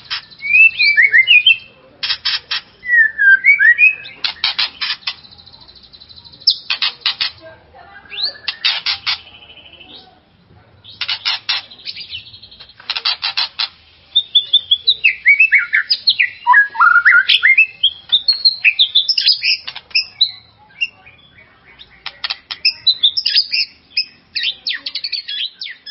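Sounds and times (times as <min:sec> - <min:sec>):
bird singing: 0:00.0 - 0:25.9.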